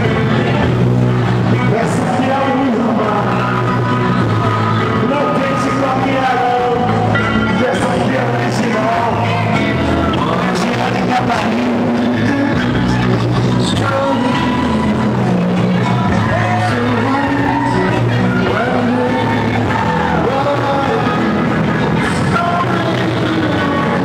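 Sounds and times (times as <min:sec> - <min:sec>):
heavy bass line: 0:00.0 - 0:24.0
music with singing: 0:00.0 - 0:24.0.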